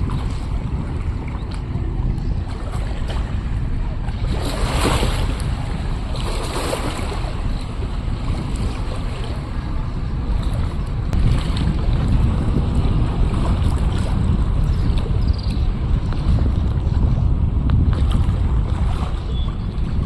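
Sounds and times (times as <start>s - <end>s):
river waves splashing: 0.0s - 20.0s
strong gusting wind on microphone: 0.0s - 20.0s.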